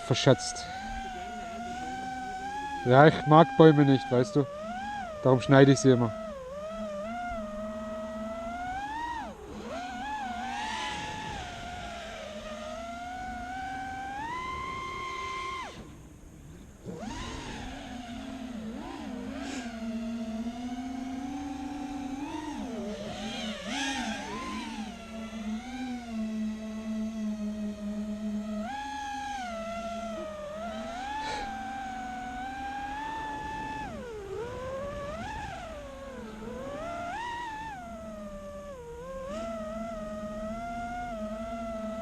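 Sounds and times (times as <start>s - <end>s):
quadcopter motors whining: 0.0s - 42.0s.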